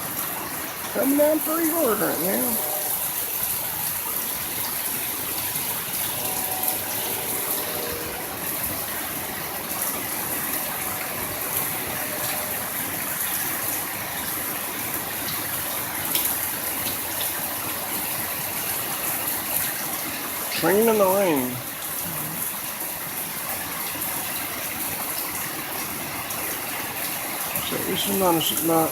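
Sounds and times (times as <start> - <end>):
heavy rain pouring: 0.0 - 28.9
raindrops ticking close by: 0.0 - 28.9.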